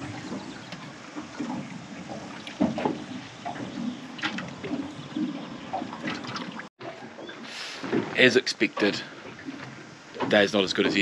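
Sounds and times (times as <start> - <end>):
small waves lapping against hull: 0.0 - 11.0.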